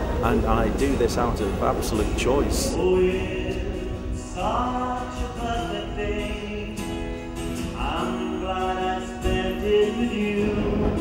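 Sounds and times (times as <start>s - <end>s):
acoustic guitar: 0.0s - 11.0s
man singing long notes: 1.5s - 11.0s.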